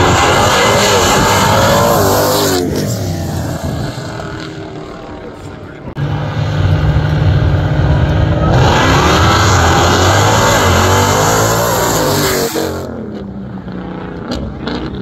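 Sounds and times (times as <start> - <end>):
engines revving at full throttle: 0.0 - 15.0.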